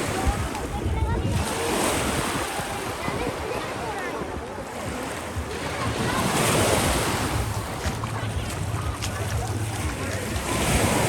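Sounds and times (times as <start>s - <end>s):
small waves washing on beach: 0.0s - 11.0s
wind rumble on microphone: 0.0s - 11.0s.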